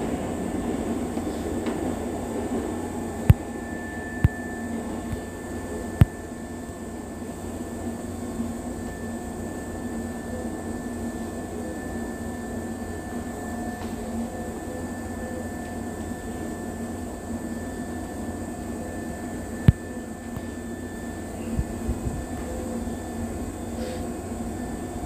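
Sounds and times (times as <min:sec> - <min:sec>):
electric train humming: 0:00.0 - 0:25.0.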